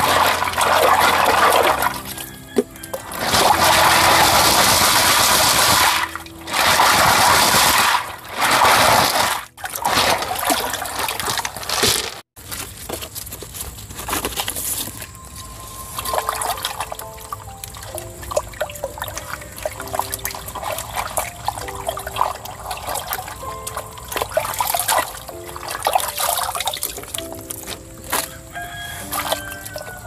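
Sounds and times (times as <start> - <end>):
stream rushing and trickling: 0.0 - 12.2, 15.3 - 30.0
water splashing and sloshing: 0.0 - 30.0.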